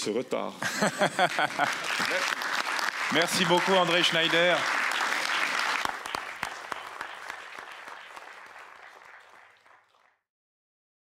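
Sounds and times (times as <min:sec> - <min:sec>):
audience applauding: 0:00.8 - 0:10.2.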